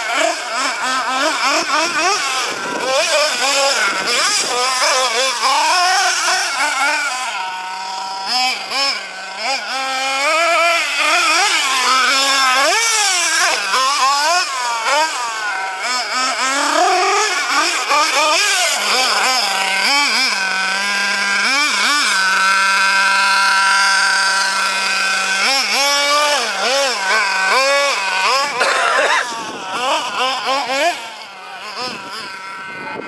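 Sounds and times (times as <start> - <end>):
nitro engine revving: 0.0 - 33.0.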